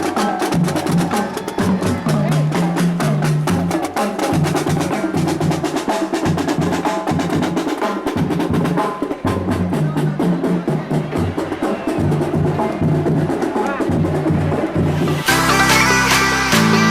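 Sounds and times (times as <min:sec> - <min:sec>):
fast dense drumming: 0:00.0 - 0:15.9
wood-block-like percussion strokes: 0:00.0 - 0:16.9.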